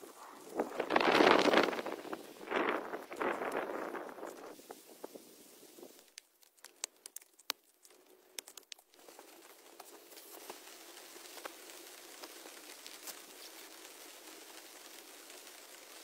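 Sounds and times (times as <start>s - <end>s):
raindrops pattering: 0.0s - 16.0s
soft rain hiss: 0.0s - 16.0s.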